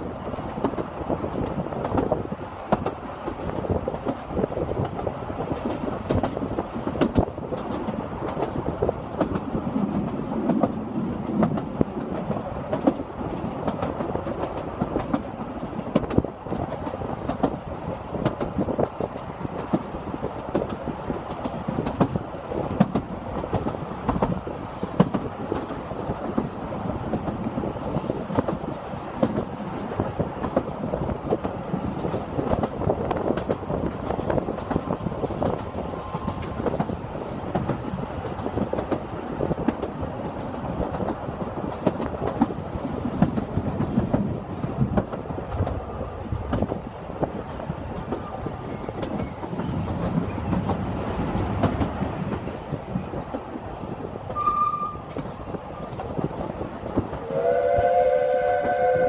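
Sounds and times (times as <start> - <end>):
railway carriage rumble: 0.0 - 59.0.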